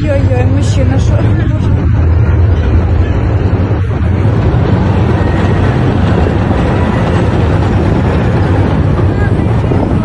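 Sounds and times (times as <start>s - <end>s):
tank engine rumbling: 0.0s - 10.0s.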